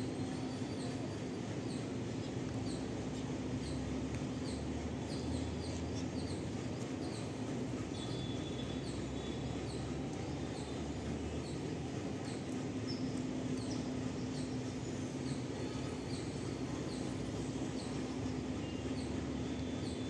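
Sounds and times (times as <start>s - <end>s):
low outdoor hum: 0.0s - 20.0s.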